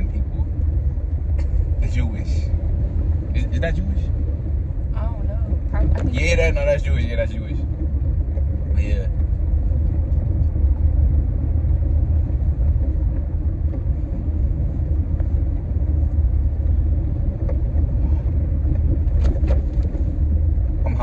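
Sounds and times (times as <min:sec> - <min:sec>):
car rumble from inside cabin: 0:00.0 - 0:21.0.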